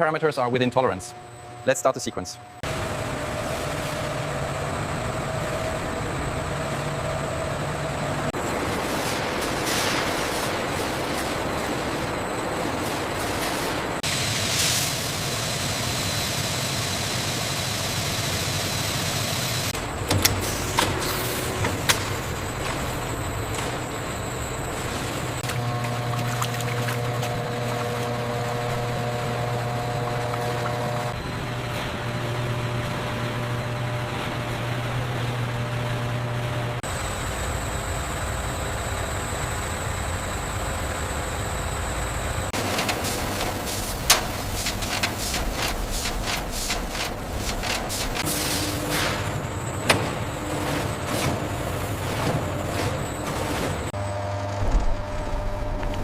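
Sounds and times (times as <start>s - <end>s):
steady machinery noise: 0.0s - 56.0s.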